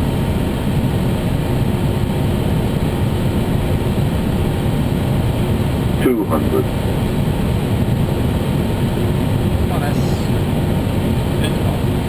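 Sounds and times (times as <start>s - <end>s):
cockpit airflow and engine rush: 0.0s - 12.0s.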